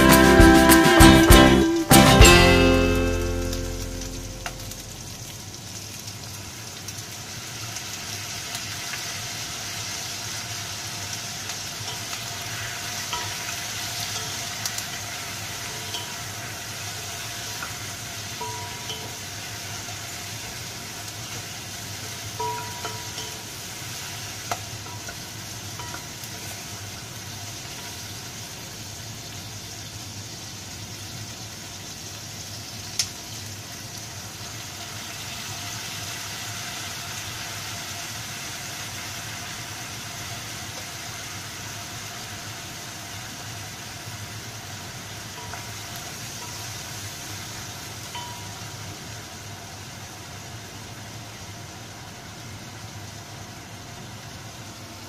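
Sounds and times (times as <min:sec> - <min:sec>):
food sizzling in a pot: 0:00.0 - 0:55.0.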